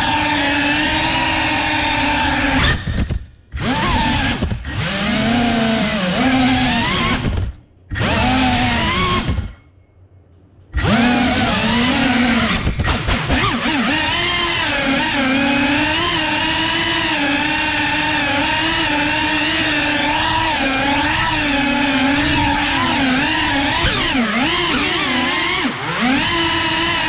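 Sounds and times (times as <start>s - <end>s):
quadcopter propellers whining: 0.0s - 9.6s, 10.7s - 27.0s.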